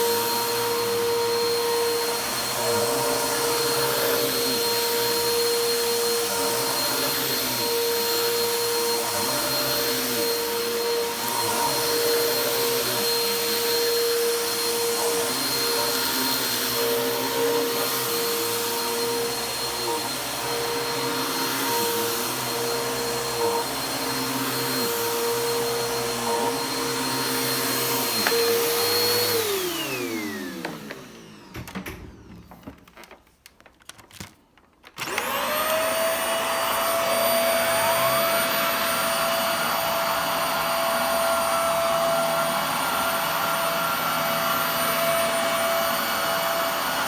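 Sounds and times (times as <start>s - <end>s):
vacuum cleaner motor whine: 0.0s - 32.8s, 35.0s - 47.0s.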